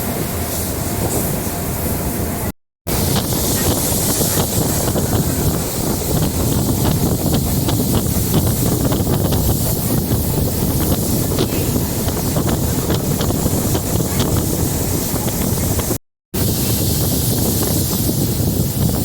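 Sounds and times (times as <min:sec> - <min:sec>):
train running noise: 0:00.0 - 0:19.0
wind rushing over microphone: 0:00.0 - 0:19.0.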